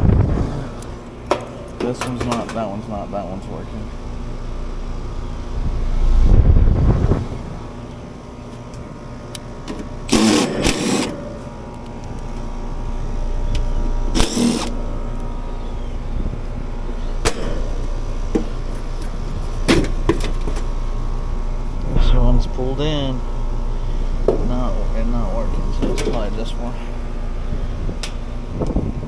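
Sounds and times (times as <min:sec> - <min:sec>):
air conditioning units humming: 0:00.0 - 0:29.0.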